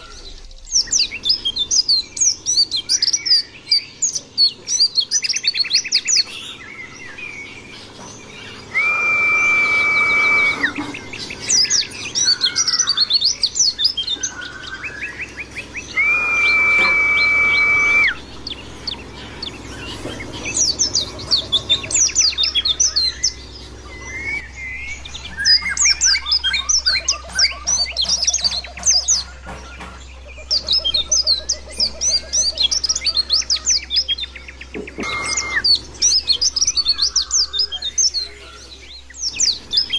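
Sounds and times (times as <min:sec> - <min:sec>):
long level bird whistle: 0:00.0 - 0:38.3
bird twittering: 0:00.0 - 0:39.9.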